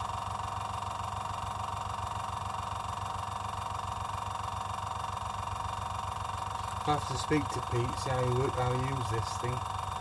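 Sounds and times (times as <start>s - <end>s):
air compressor motor humming: 0.0s - 10.0s.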